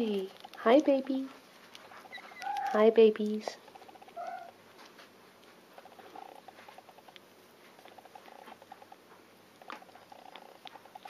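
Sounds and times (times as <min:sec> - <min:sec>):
kitten licking and sucking fingers: 0:00.0 - 0:11.0.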